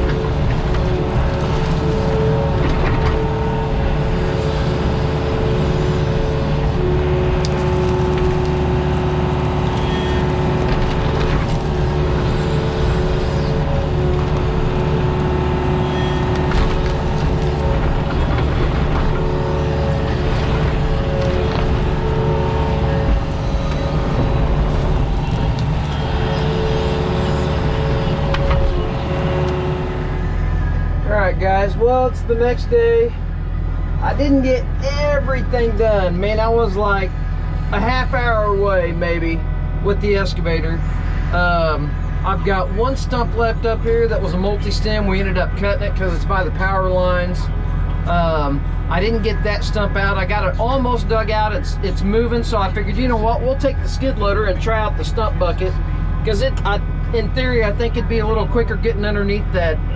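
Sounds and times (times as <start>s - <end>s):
diesel engine running: 0.0s - 59.9s
hydraulic whine: 0.0s - 59.9s.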